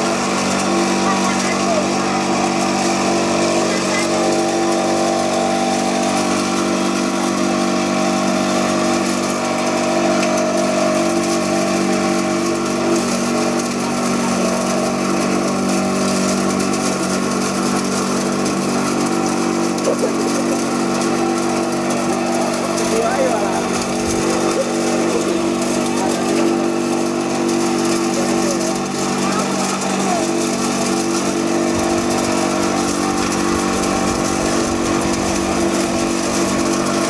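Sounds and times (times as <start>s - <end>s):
grinder machine humming: 0.0s - 37.0s.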